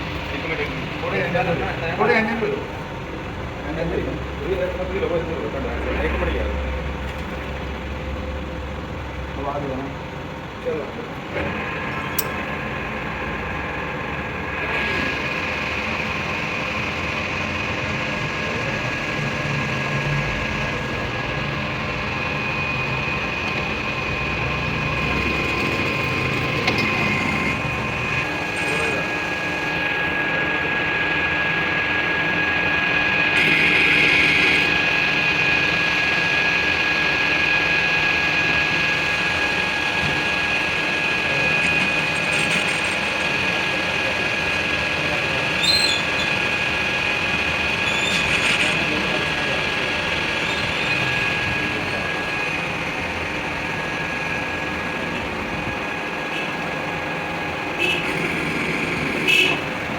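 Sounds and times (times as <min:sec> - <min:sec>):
machinery high whine: 0:00.0 - 0:59.9
machinery rumble: 0:00.0 - 0:59.9.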